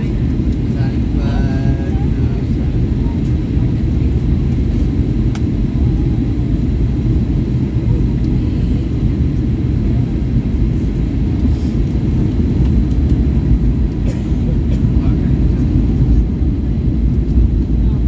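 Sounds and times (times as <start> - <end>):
airflow: 0.0 - 18.0
jet engines rumbling in cabin: 0.0 - 18.0.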